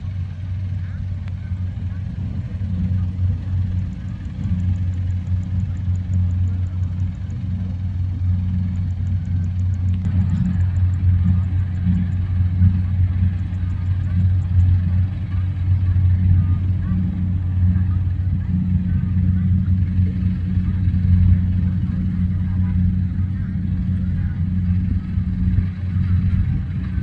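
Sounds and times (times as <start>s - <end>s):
harvester engine drone: 0.0s - 27.0s
faint rapid high ticking: 1.2s - 26.7s.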